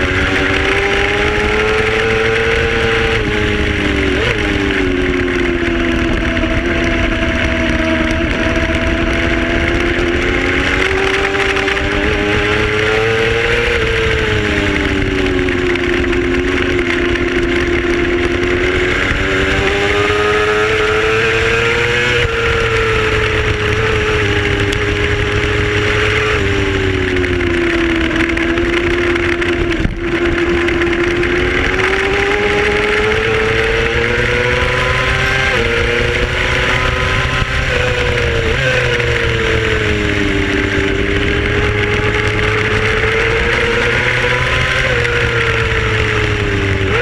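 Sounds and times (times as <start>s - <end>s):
racing motorcycle engine revving: 0.0s - 47.0s
wind noise: 0.0s - 47.0s.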